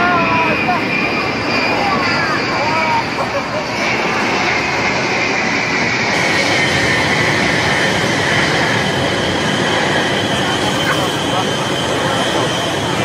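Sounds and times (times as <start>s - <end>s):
jet aircraft flying overhead: 0.0s - 13.0s.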